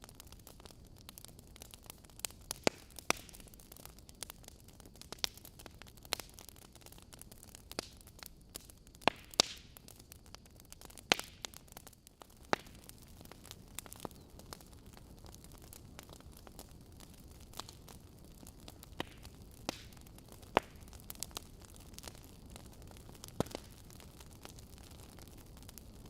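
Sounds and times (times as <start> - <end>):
fire hissing: 0.0 - 26.0
logs crackling and popping: 0.0 - 26.0.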